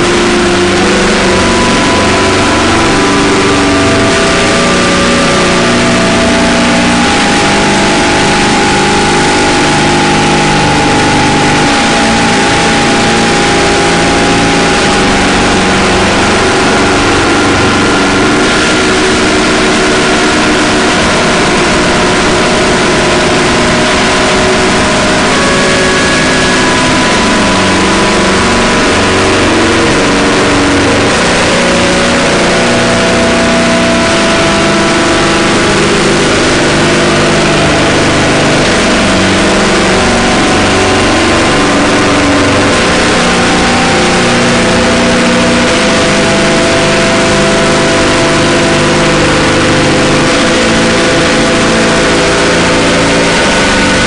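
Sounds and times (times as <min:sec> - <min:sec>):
harsh noise drone music: 0:00.0 - 0:54.0.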